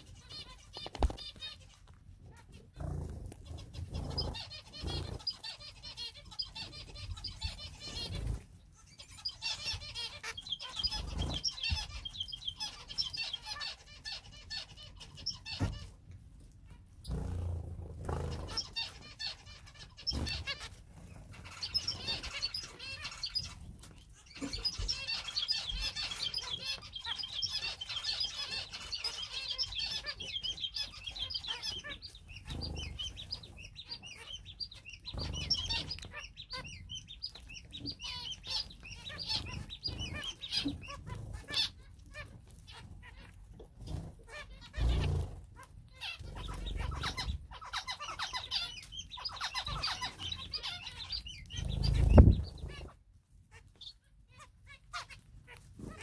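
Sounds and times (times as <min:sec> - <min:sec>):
small birds chattering: 0:00.0 - 0:56.0
wings fluttering: 0:00.2 - 0:13.8, 0:16.7 - 0:33.6, 0:35.0 - 0:48.6, 0:49.4 - 0:53.0.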